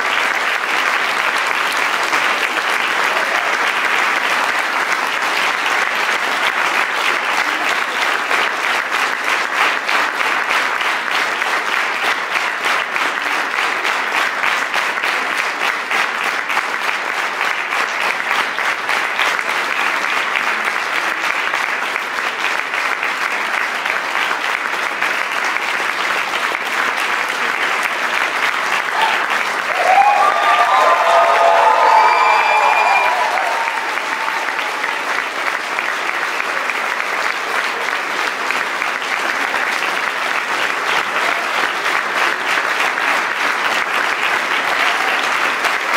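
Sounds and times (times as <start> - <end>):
audience applauding: 0.0 - 45.9.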